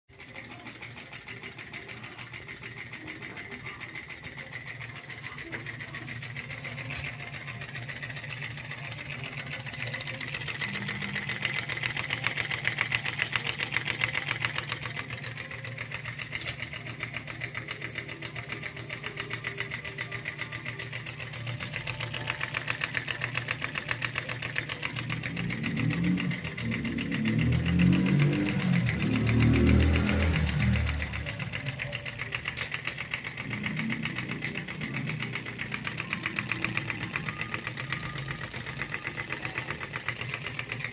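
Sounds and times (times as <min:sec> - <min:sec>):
small engine clattering: 0:00.1 - 0:40.9.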